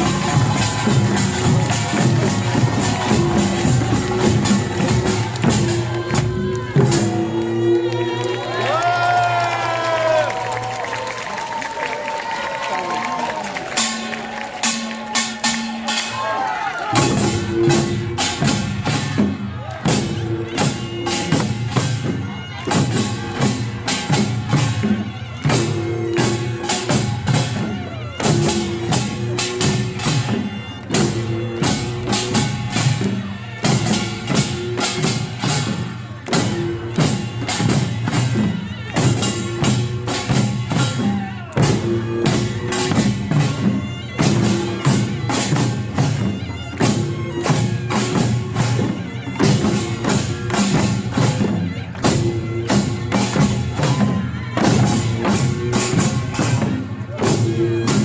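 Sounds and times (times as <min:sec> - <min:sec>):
barrel drums: 0:00.0 - 0:07.7, 0:13.6 - 0:58.0.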